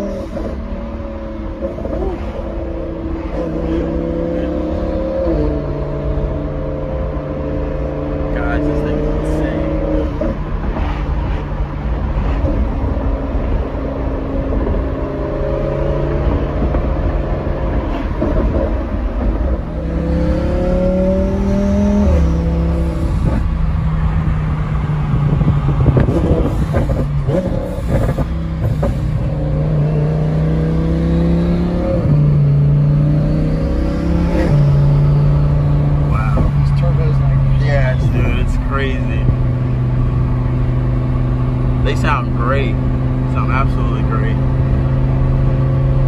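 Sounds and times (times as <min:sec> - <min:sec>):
car engine accelerating through gears: 0:00.0 - 0:46.0.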